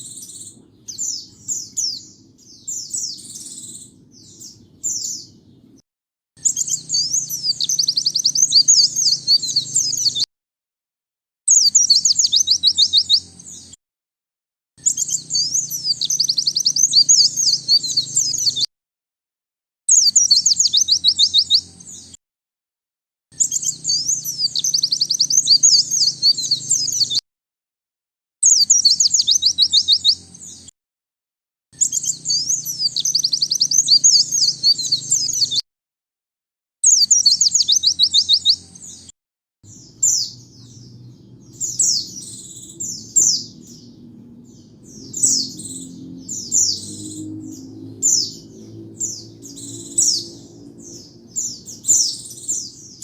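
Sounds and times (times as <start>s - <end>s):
bird chirps: 0.0s - 5.8s, 6.4s - 10.3s, 11.5s - 13.8s, 14.8s - 18.7s, 19.9s - 22.2s, 23.3s - 27.2s, 28.4s - 30.7s, 31.8s - 35.6s, 36.8s - 53.0s
bird twittering: 0.0s - 5.8s, 6.4s - 10.3s, 11.5s - 13.8s, 14.8s - 18.7s, 19.9s - 22.2s, 23.3s - 27.2s, 28.4s - 30.7s, 31.8s - 35.6s, 36.8s - 39.1s, 39.7s - 53.0s.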